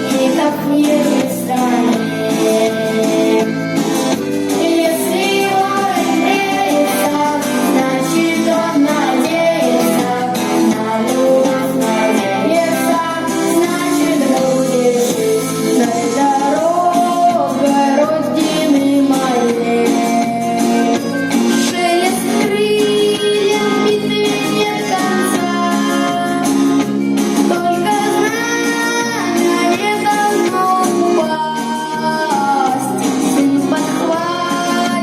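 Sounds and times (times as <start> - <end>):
instrumental accompaniment: 0.0 - 35.0
vocal group singing: 0.0 - 35.0.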